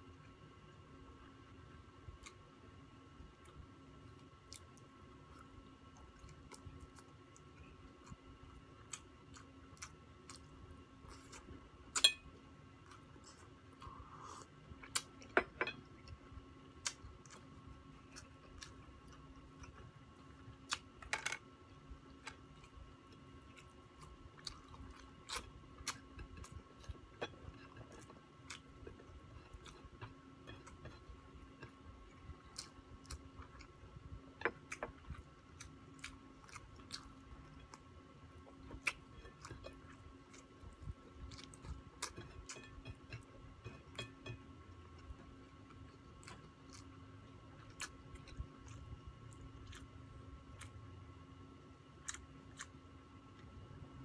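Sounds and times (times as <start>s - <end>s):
faint steady hum: 0.0s - 54.0s
man chewing meat: 1.5s - 51.0s, 51.6s - 53.6s.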